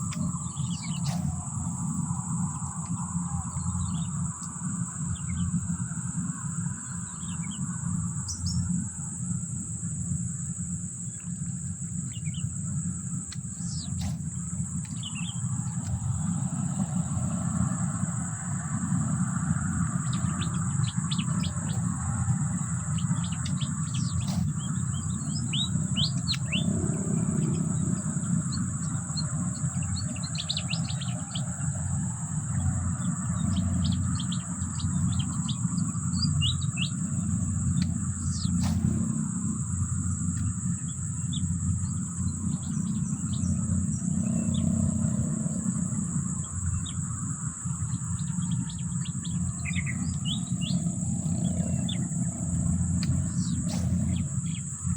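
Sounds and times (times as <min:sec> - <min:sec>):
birds chirping: 0:00.0 - 0:08.9, 0:10.0 - 0:54.9
low rumble: 0:00.0 - 0:54.9.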